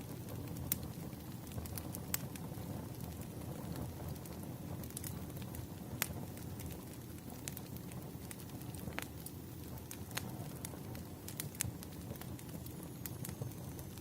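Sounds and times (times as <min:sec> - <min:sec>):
burning logs roaring: 0:00.0 - 0:14.0
fire pops and crackles: 0:00.0 - 0:14.0.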